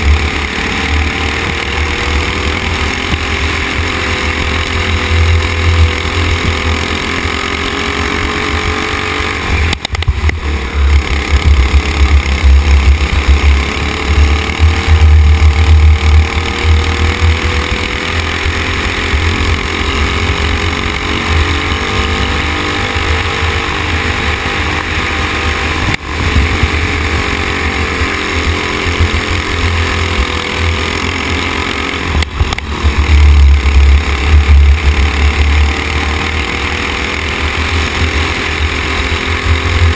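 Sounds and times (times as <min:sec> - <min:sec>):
kart engine at speed: 0:00.0 - 0:39.9.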